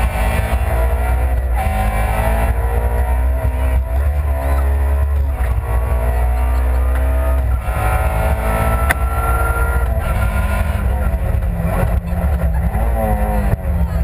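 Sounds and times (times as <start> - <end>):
car engine running hard: 0.0 - 14.0.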